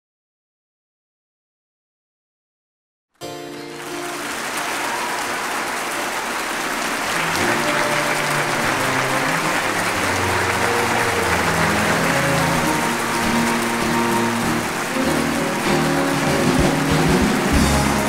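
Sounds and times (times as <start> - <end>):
audience applauding: 3.2 - 18.0
string ensemble playing: 3.2 - 18.0.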